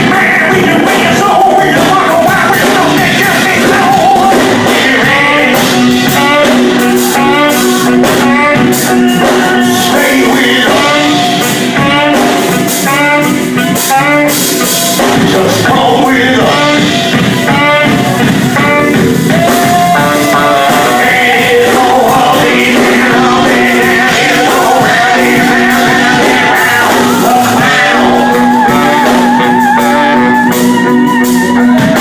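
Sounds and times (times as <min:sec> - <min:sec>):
blues-rock band with guitar: 0:00.0 - 0:32.0.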